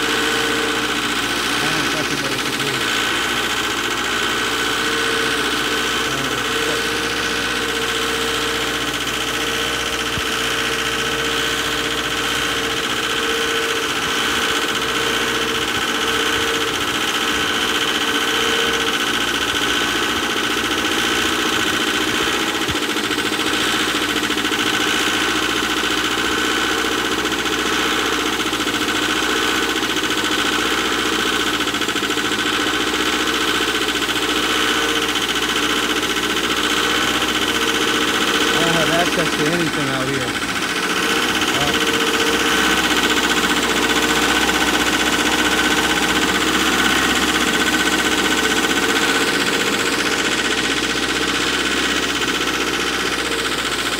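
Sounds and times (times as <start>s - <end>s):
diesel engine running with whine: 0.0s - 53.9s.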